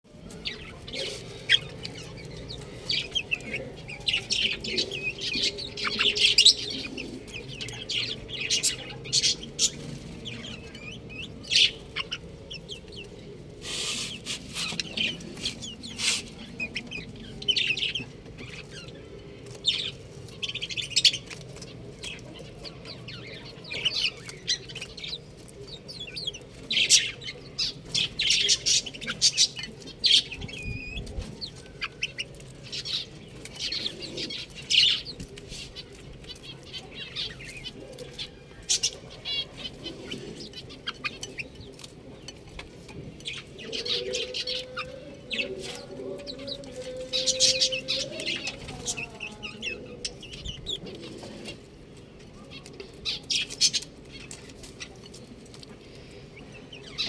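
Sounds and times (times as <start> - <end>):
chicks peeping: 0.1 - 57.0.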